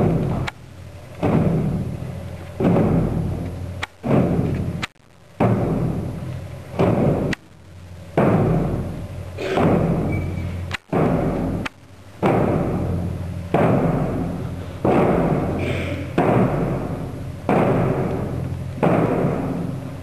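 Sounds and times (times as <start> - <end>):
large drums struck in unison: 0.0 - 0.5, 1.2 - 4.8, 5.4 - 7.5, 8.1 - 10.1, 10.8 - 20.0.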